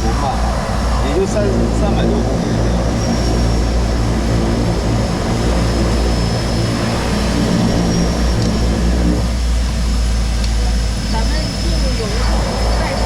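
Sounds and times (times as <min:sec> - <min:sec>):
propeller engine droning: 0:00.0 - 0:13.0.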